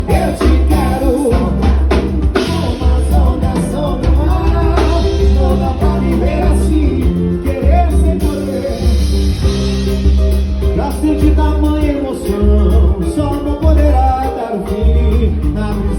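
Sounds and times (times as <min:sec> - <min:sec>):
drum kit: 0:00.0 - 0:15.9
heavy steady bass beat: 0:00.0 - 0:15.9
person singing: 0:00.0 - 0:15.9.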